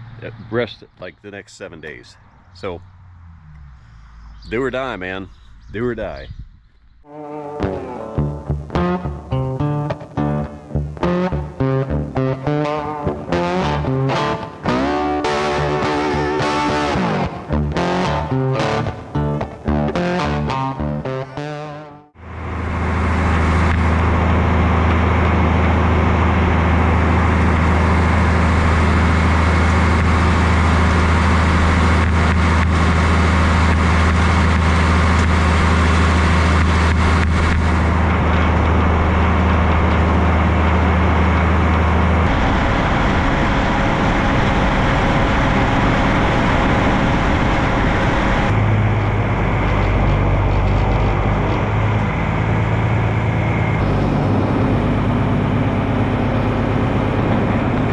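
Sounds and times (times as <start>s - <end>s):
tractor engine droning: 0.0s - 6.2s, 7.0s - 57.9s.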